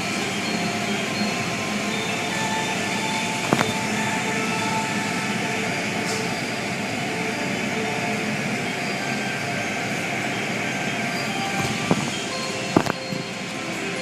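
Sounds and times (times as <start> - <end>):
car wash machinery running: 0.0 - 14.0.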